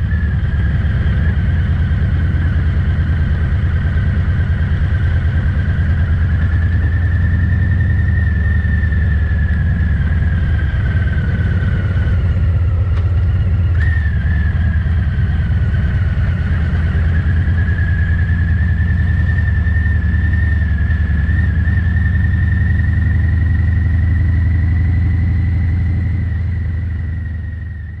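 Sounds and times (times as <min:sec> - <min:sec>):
distorted motorcycle engine running: 0:00.0 - 0:28.0.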